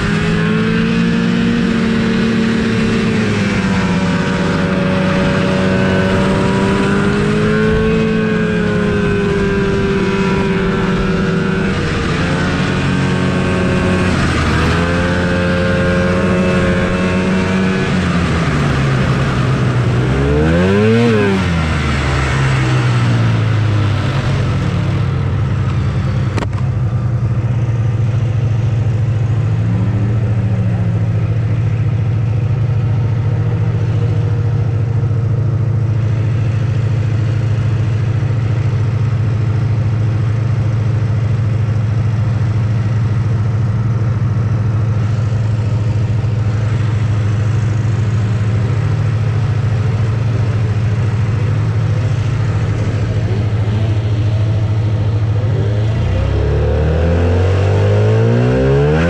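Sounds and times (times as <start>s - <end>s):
distant snowmobile engines revving: 0.0s - 59.0s
snowmobile engine running steadily: 0.0s - 59.0s.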